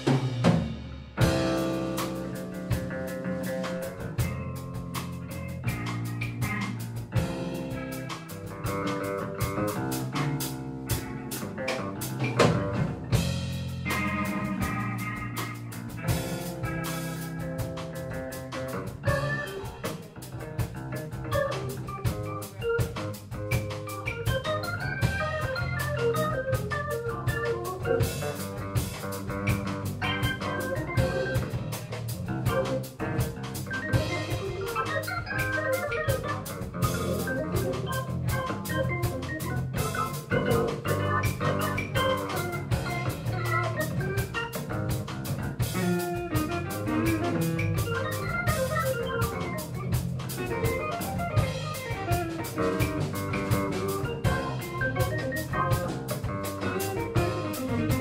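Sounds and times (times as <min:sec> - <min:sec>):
congas: 0:00.0 - 0:58.0
drum kit: 0:00.0 - 0:58.0
electric guitar: 0:00.0 - 0:58.0
organ: 0:00.0 - 0:58.0.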